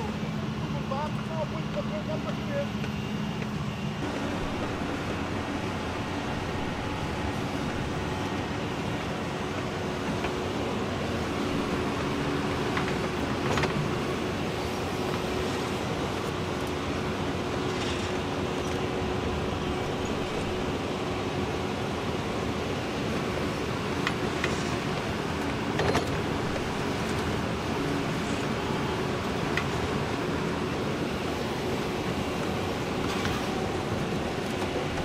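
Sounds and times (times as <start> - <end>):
excavator engine droning: 0.0 - 35.0.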